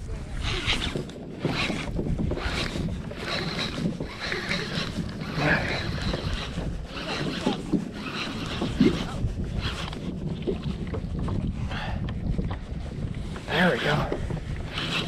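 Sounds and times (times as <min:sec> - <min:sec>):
water lapping against a kayak: 0:00.0 - 0:15.0
wind buffeting microphone: 0:00.0 - 0:15.0.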